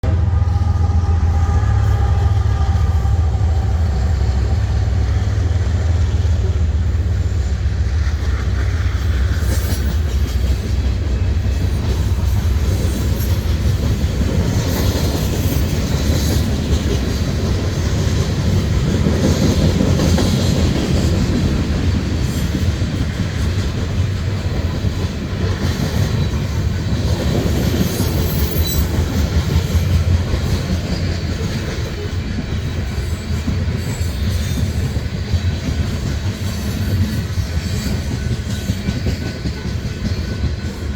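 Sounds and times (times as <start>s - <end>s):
train rumbling on track: 0.0s - 40.9s.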